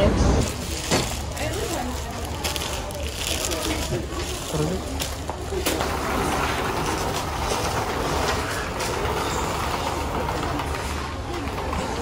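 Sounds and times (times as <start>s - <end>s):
distant store activity: 0.0s - 12.0s.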